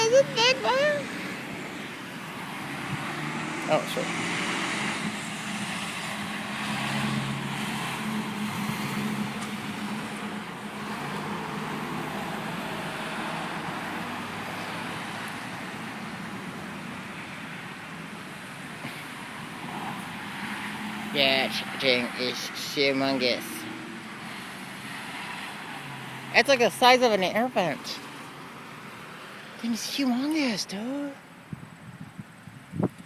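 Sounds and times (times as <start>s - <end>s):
vehicle engine hum: 0.0s - 33.0s
vehicles passing by: 0.0s - 33.0s.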